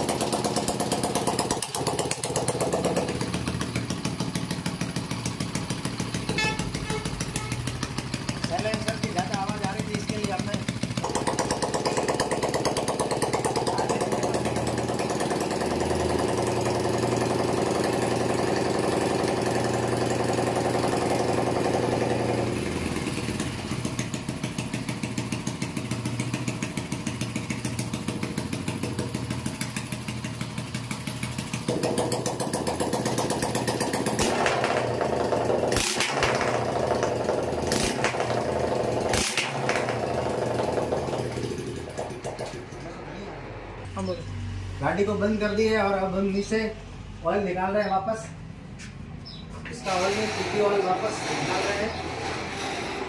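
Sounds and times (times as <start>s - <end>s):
motorcycle engine running: 0.0s - 46.3s.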